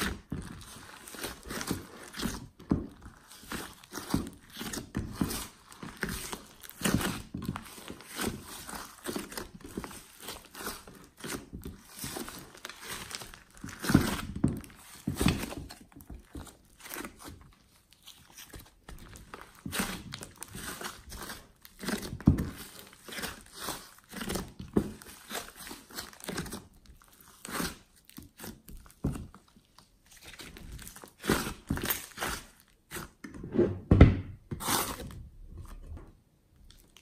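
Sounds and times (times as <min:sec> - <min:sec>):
slime squelching: 0:00.0 - 0:33.2.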